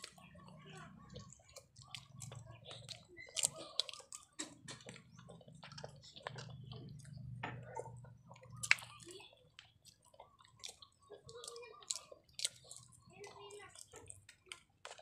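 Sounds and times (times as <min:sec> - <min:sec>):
people chewing wetly: 0:00.0 - 0:15.0.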